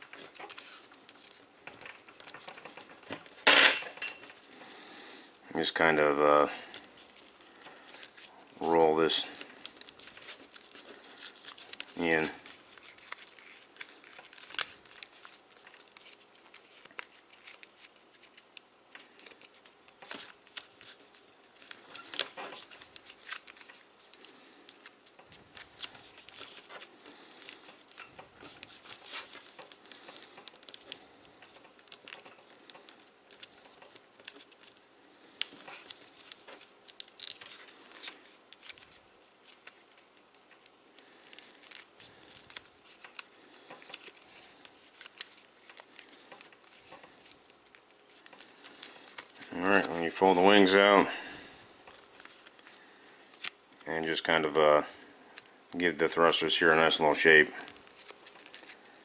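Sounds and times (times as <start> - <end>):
paper crinkling: 0.0 - 3.5, 4.2 - 59.0.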